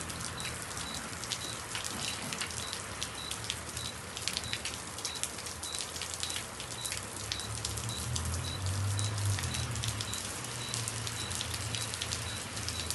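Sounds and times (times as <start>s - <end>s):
heavy rain: 0.0s - 12.9s.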